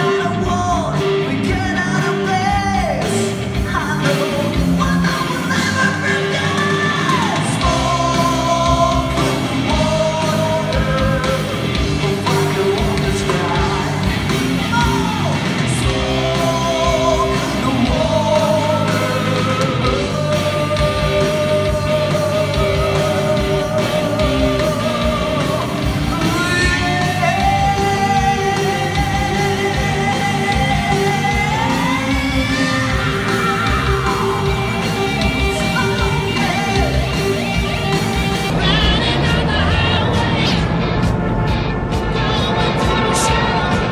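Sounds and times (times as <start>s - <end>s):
live rock band playing: 0.0s - 43.9s
person singing long notes: 4.0s - 40.9s.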